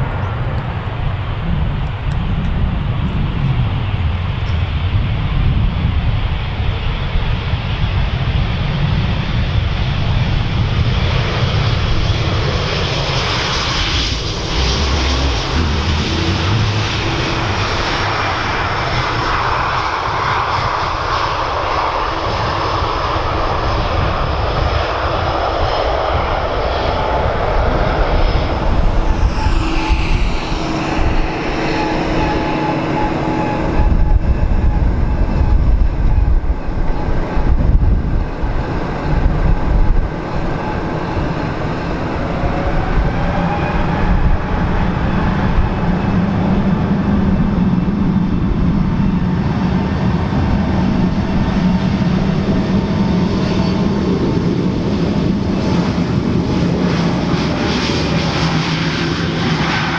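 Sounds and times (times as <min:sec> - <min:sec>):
deep jet rumble: 0:00.0 - 0:59.9
jet engines of passing airliner: 0:00.0 - 0:59.9.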